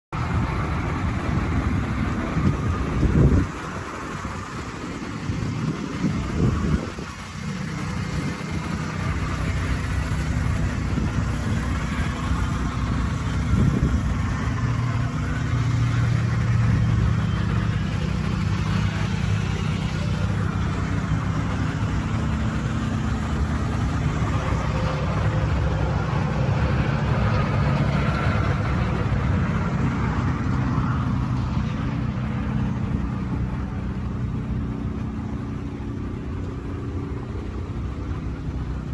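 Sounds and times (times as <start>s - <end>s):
truck engine idling: 0.1s - 38.9s
wind buffeting on microphone: 0.2s - 38.9s.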